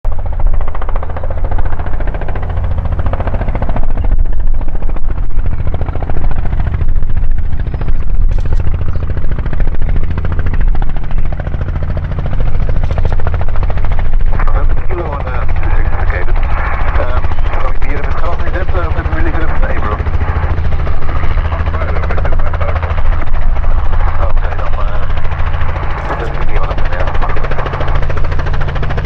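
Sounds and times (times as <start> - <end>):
helicopter engine drone: 0.0 - 29.0
helicopter rotor beating: 0.1 - 29.0.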